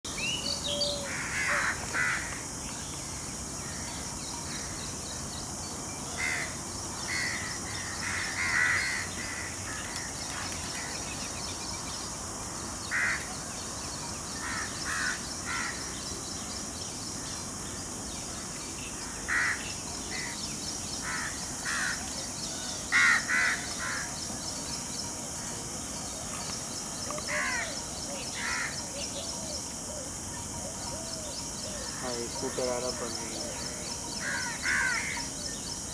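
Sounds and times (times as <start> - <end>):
steady high hiss: 0.1 - 35.9.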